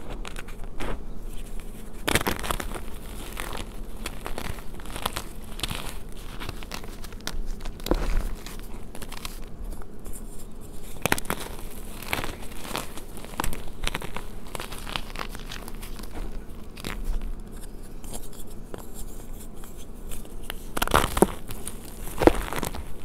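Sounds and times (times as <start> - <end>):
chalk crunching between fingers: 0.0 - 23.0.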